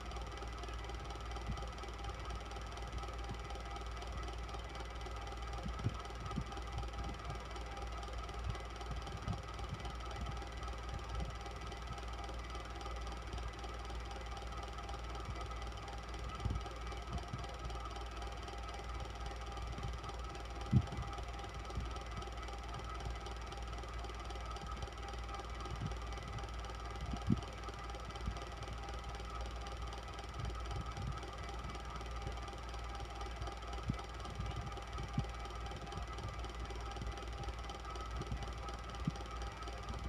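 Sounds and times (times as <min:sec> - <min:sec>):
electric fan humming: 0:00.0 - 0:40.0.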